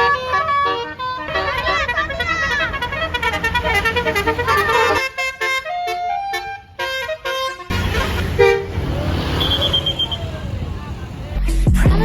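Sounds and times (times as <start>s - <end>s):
musical air horn melody: 0.0s - 11.2s
bus engine rumble: 0.0s - 12.0s.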